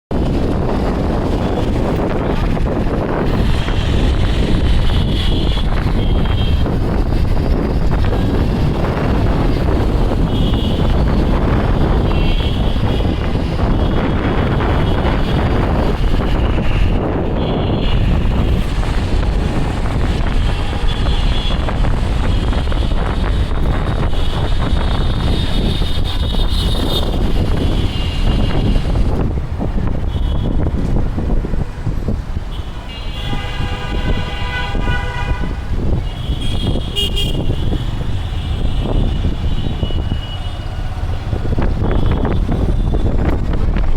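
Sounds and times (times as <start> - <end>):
road and traffic noise: 0.0 - 43.9
wind buffeting microphone: 0.1 - 43.9.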